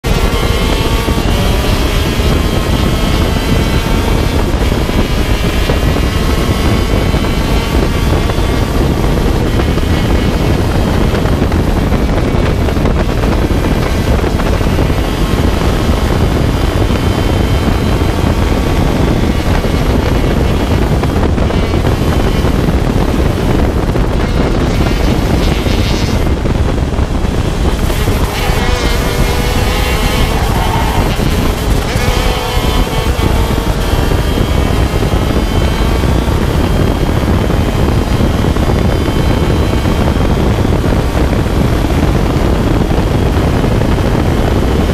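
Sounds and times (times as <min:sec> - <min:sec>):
kart engine racing: 0:00.0 - 0:44.9
wind rushing over microphone: 0:00.0 - 0:44.9.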